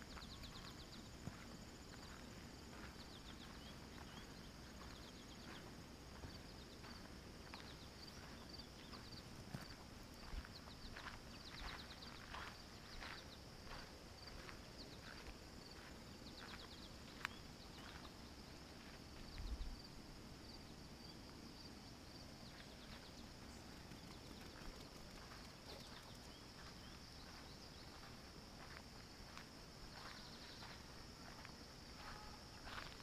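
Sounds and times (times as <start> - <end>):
insects chirring: 0.0 - 33.0
footsteps on gravel road: 0.1 - 18.2, 22.5 - 33.0.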